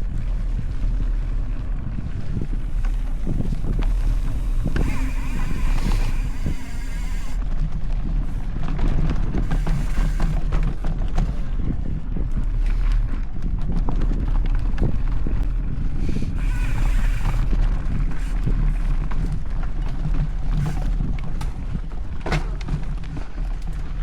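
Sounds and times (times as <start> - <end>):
bike rattling over bumps: 0.0 - 24.0
bike rolling over dirt trail: 0.0 - 24.0.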